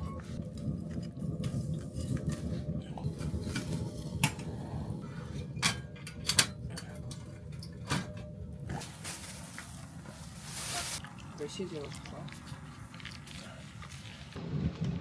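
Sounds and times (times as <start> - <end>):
low steady rumble: 0.0 - 14.8.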